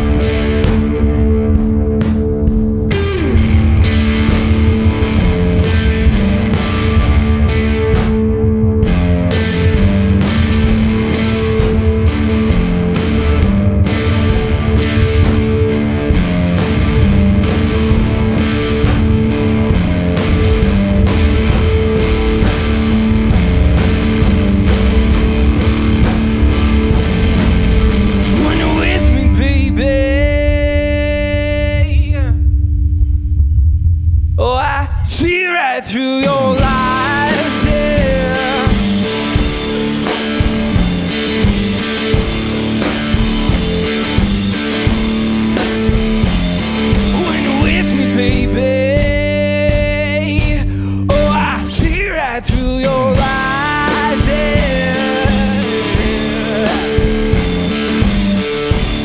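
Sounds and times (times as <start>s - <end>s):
drum and cymbal hits: 0.0s - 32.4s, 36.2s - 59.0s
distorted electric guitar chords: 0.0s - 59.0s.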